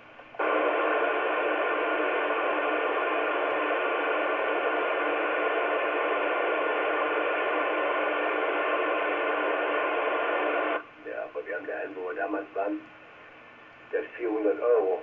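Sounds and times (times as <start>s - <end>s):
faint interference tones: 0.0s - 15.0s
radio static hiss: 0.0s - 15.0s.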